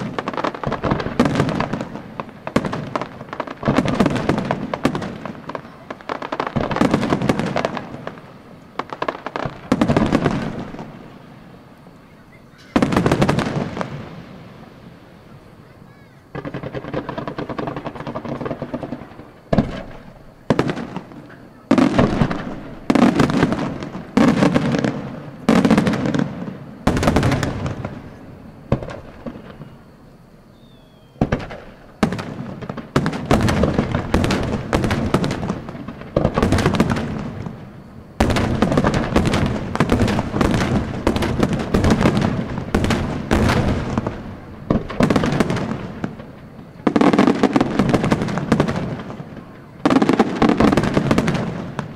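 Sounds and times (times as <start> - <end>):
firework shells bursting: 0.0 - 14.8, 15.4 - 30.0, 30.6 - 51.9.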